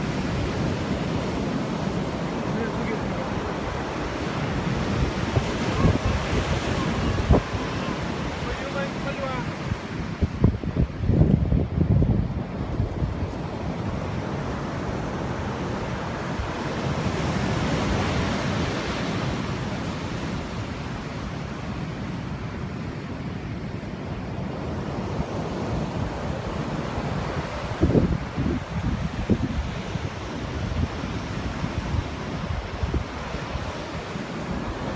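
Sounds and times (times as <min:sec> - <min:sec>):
wind buffeting microphone: 0:00.0 - 0:22.6, 0:24.3 - 0:34.9
sea waves washing ashore: 0:00.0 - 0:34.9.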